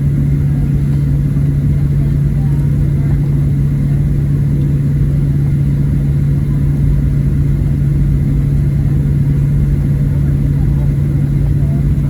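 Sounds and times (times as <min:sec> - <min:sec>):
airplane cabin noise taxiing: 0:00.0 - 0:12.0.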